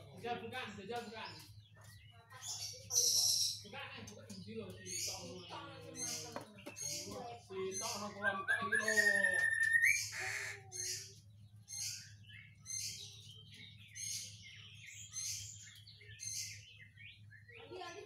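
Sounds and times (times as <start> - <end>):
sharp high-pitched bird calls: 1.4 - 3.7, 4.8 - 17.8.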